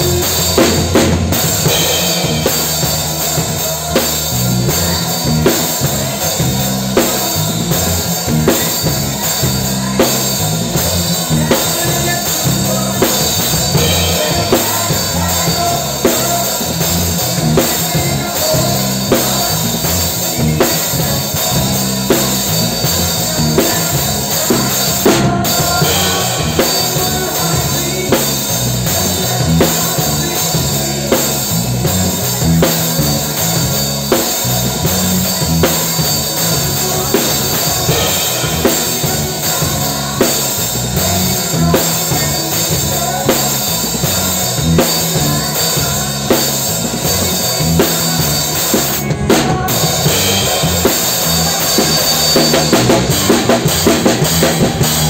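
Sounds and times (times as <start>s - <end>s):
bass line: 0.0s - 55.0s
drum kit playing a steady beat: 0.0s - 55.0s
keyboard line: 0.0s - 55.0s.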